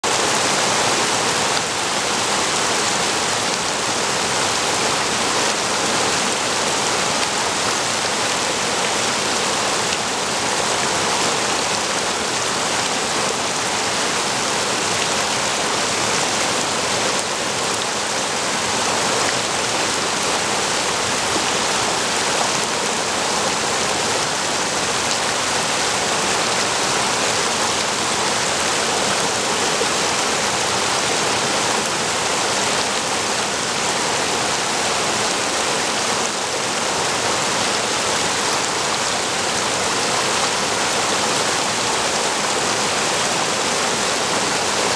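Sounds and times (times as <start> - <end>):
water rushing over a weir: 0.0 - 44.9.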